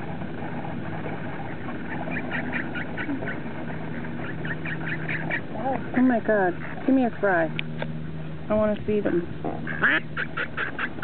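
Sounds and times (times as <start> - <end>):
steady low hum: 0.0 - 11.0
ducks quacking: 0.5 - 7.5, 9.0 - 11.0.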